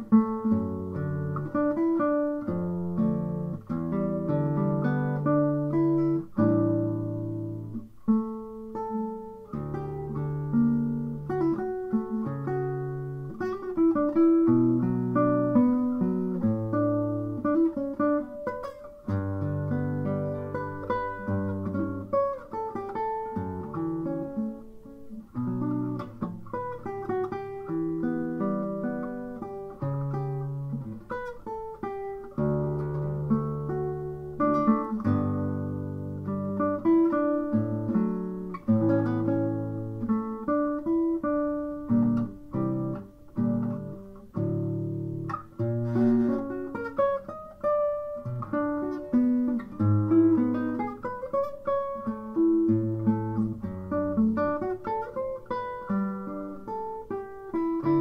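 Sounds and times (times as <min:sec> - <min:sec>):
classical guitar fingerpicked: 0:00.0 - 0:58.0.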